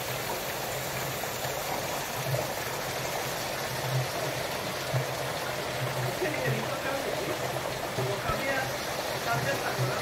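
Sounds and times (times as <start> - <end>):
rainwater rushing down downspout: 0.0 - 10.0.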